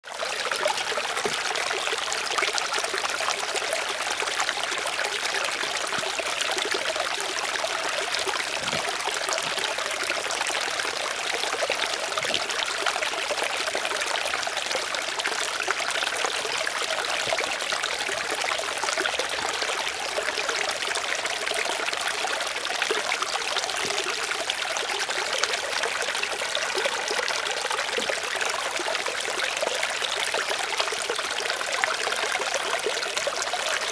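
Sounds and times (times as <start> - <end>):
trickling water: 0.0 - 33.9.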